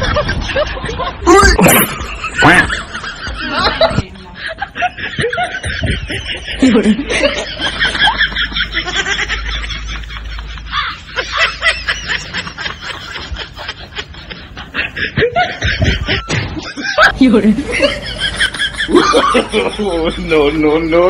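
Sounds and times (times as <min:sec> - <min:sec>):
laugh track giggling: 0:00.0 - 0:21.0.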